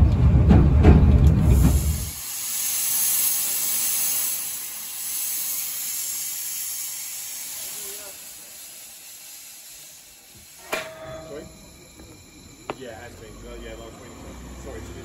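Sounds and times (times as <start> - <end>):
moving train rumble: 0.0 - 15.0
steam locomotive hissing: 1.4 - 15.0.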